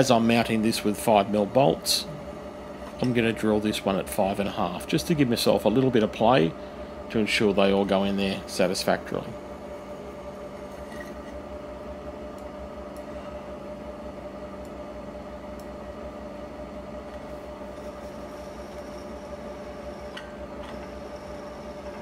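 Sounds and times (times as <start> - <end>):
drill press running: 0.0 - 22.0.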